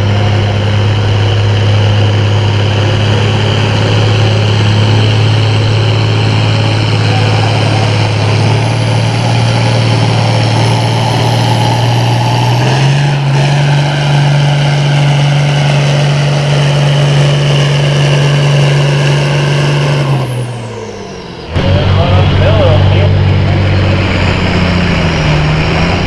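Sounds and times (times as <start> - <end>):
high whine: 0.0 - 26.0
tractor engine under load: 0.0 - 26.0.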